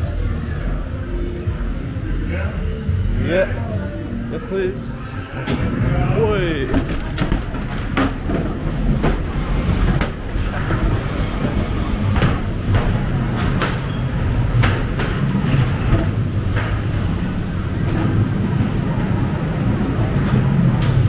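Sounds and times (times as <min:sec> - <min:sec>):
ride car rumbling on track: 0:00.0 - 0:21.0.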